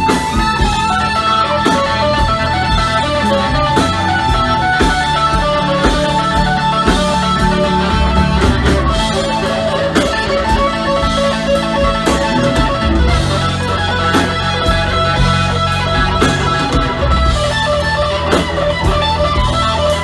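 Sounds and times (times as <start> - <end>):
bass guitar: 0.0 - 20.0
electric guitar sustained notes: 0.0 - 20.0.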